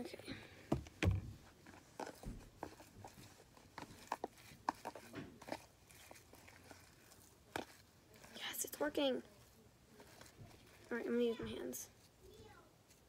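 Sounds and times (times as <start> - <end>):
plastic spoon stirring slime: 1.5 - 13.0.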